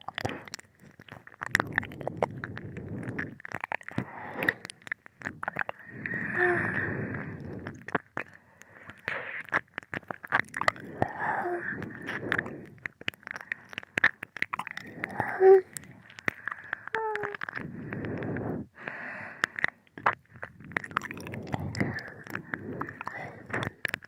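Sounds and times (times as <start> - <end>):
wet licking mouth sounds: 0.0 - 6.2, 6.8 - 18.6, 19.4 - 24.0
tongue and lip clicks: 0.0 - 24.0
soft breathy noise: 0.2 - 9.5, 10.7 - 14.1, 14.8 - 24.0.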